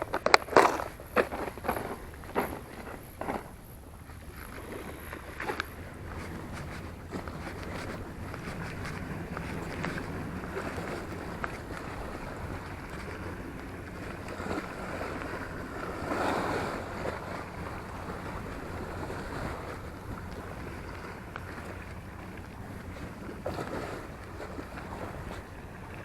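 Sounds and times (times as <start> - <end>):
low steady rumble: 0.0 - 26.0
sea water washing: 0.0 - 26.0
wind buffeting microphone: 0.0 - 26.0.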